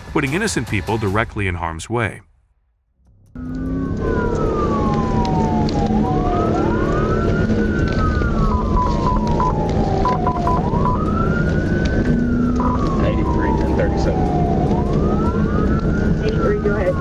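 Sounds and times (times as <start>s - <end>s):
engine and road rumble: 3.0s - 17.0s
police siren wailing: 3.4s - 17.0s.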